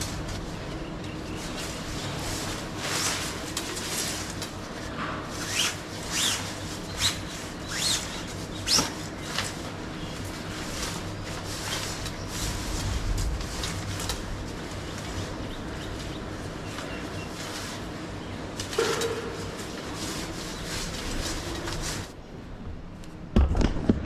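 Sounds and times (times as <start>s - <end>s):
tent fabric rustling: 0.0s - 22.2s.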